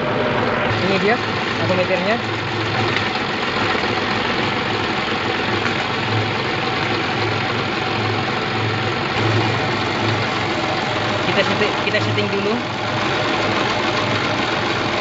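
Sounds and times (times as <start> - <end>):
forklift engine idling: 0.0 - 15.0.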